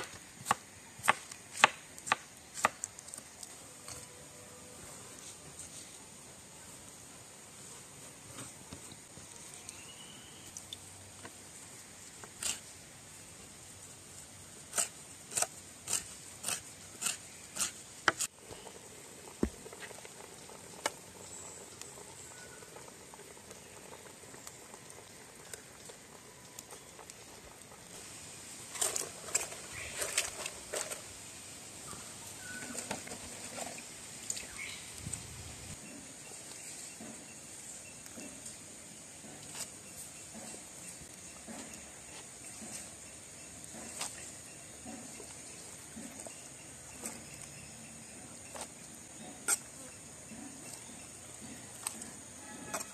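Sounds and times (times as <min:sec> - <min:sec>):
faint steady hiss: 0:00.0 - 0:52.9.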